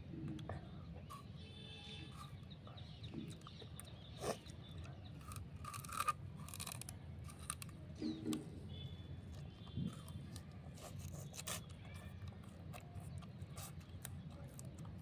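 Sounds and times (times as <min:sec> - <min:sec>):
sugarcane chewing and crunching: 0:00.0 - 0:15.0.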